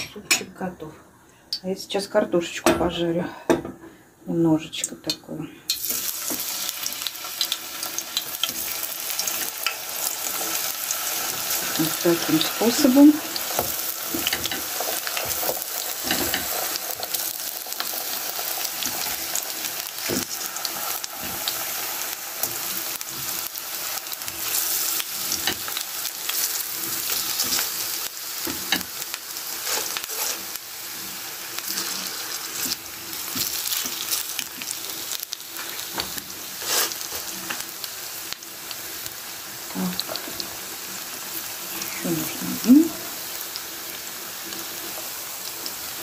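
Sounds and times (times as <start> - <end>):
potatoes sizzling in hot oil: 5.7 - 46.0.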